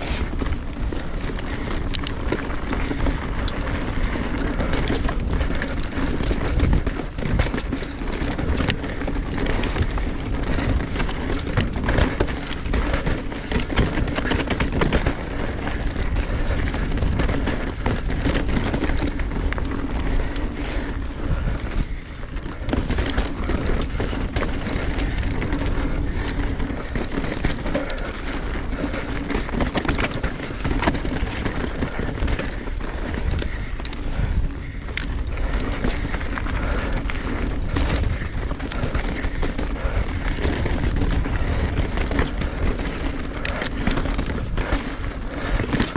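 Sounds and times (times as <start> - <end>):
bike rattling and knocking: 0.0 - 45.9
bike tyres rushing on dirt: 0.0 - 45.9.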